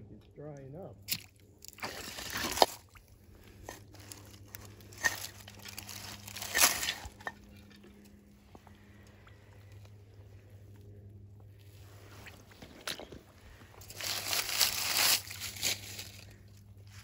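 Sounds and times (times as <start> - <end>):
crunching on wet gravel: 1.0 - 10.0, 11.6 - 17.0.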